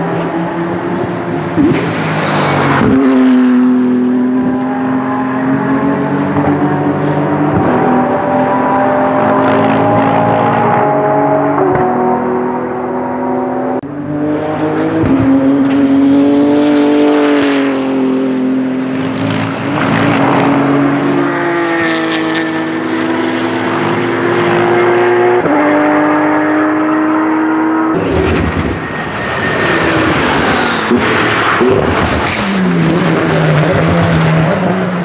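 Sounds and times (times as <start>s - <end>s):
race car engine revving with gear changes: 0.0s - 35.0s.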